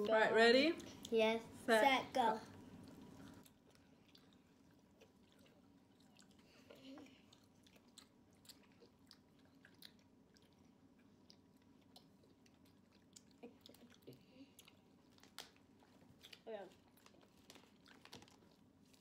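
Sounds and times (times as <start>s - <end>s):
chewing gummy candy: 2.4s - 19.0s.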